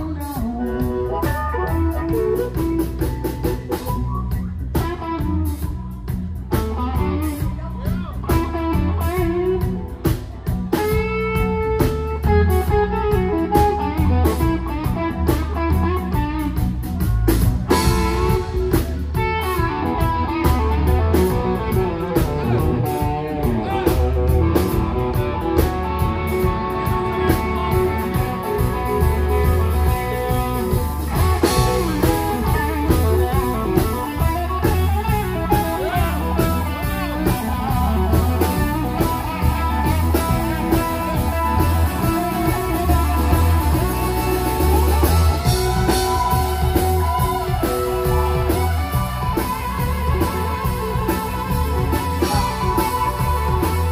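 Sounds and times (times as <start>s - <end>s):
bass pulse: 0.0s - 53.9s
electric guitar: 0.0s - 53.9s.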